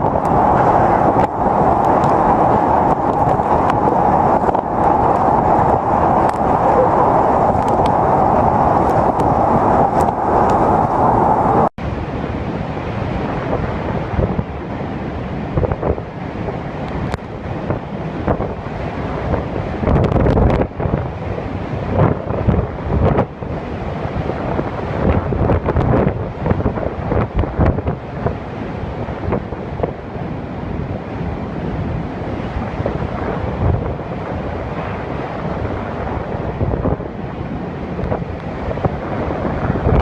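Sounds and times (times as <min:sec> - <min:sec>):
strong wind gusting on microphone: 0:00.0 - 0:40.0.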